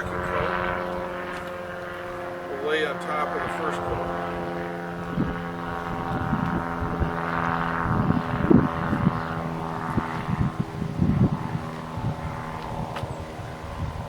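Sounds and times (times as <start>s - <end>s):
steady motor hum: 0.0s - 14.0s.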